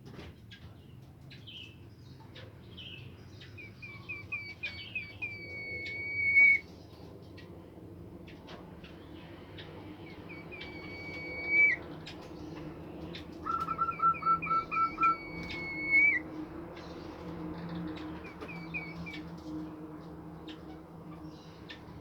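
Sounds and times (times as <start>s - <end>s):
songbird singing: 1.3s - 7.5s, 8.3s - 22.0s.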